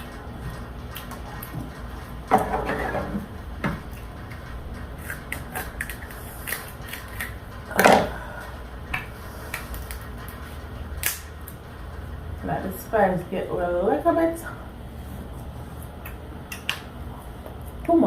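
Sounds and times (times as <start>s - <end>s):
room heater hum: 0.0s - 18.0s.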